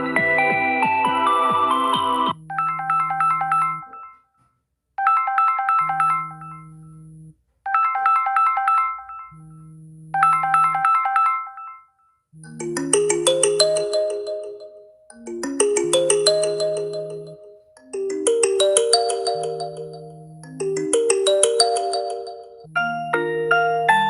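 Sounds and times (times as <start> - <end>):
phone ringtone melody: 0.0 - 4.2, 5.0 - 7.0, 7.7 - 9.6, 10.2 - 24.0
busy phone ringtone: 0.0 - 4.3, 5.0 - 7.0, 7.7 - 9.6, 10.2 - 24.0.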